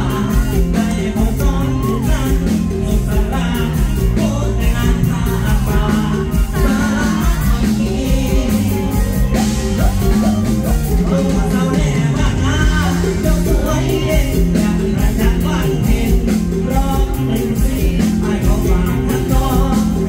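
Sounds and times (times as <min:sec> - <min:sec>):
amplified band with bass and drums: 0:00.0 - 0:20.0
man singing into a microphone: 0:00.0 - 0:20.0.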